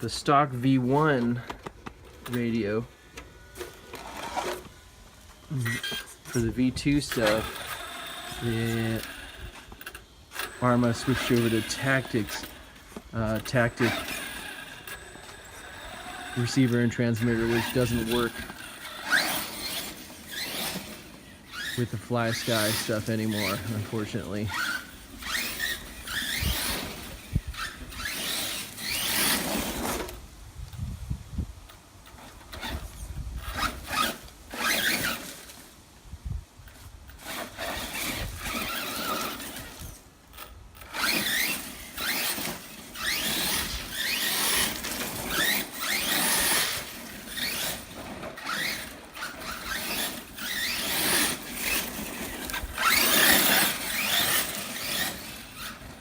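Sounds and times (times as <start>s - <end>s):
electric motor whining: 0.0s - 30.2s, 32.0s - 35.7s, 36.7s - 56.0s
tyres scrabbling over ground: 0.0s - 30.3s, 32.0s - 35.8s, 36.6s - 56.0s.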